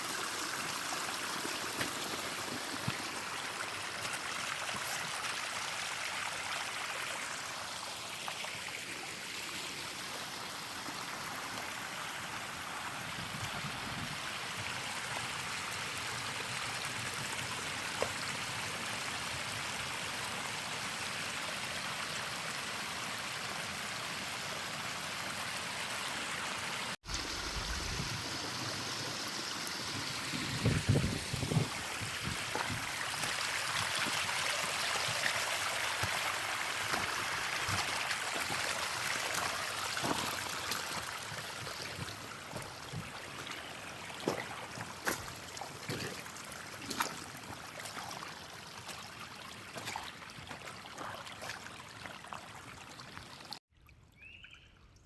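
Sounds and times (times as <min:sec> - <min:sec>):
stream water rushing: 0:00.0 - 0:53.6.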